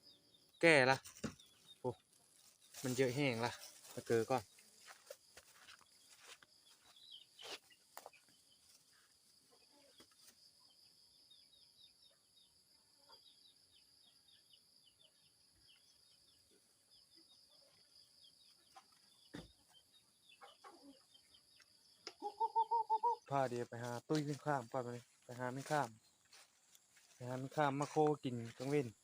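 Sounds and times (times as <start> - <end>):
faint bird chirps: 0.0 - 29.0.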